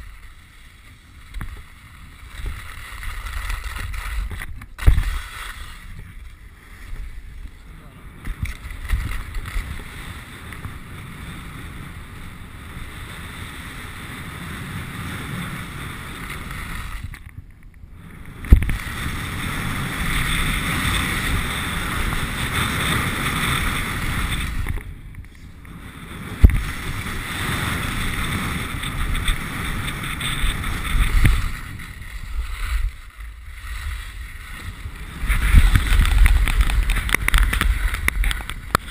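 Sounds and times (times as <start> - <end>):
skis scraping over snow: 0.0 - 38.9
wind buffeting microphone: 1.2 - 38.9.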